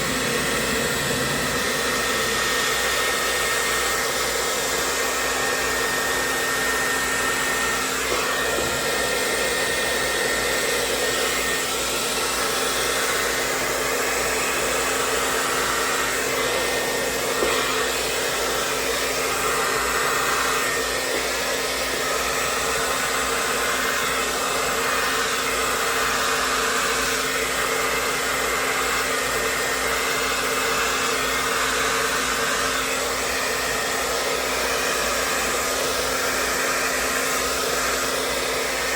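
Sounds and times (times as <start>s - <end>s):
blow dryer running: 0.0s - 38.9s.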